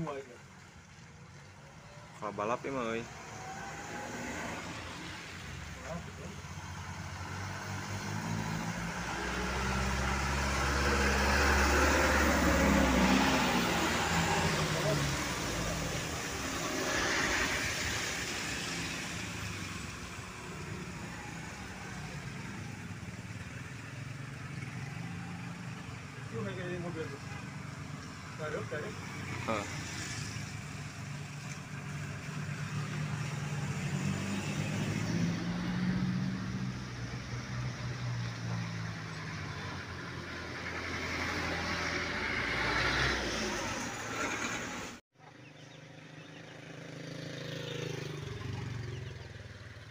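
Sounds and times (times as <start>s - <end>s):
road noise: 0.0s - 49.9s.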